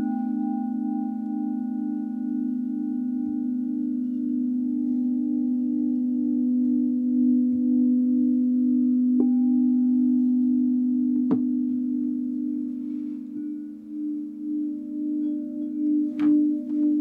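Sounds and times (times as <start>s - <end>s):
singing bowl struck: 0.0s - 17.0s
singing bowls humming: 0.0s - 17.0s.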